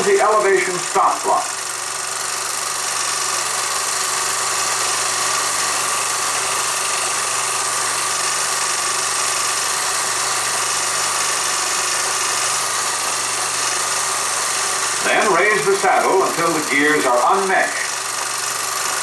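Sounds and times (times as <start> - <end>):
film projector hum and hiss: 0.0 - 19.0.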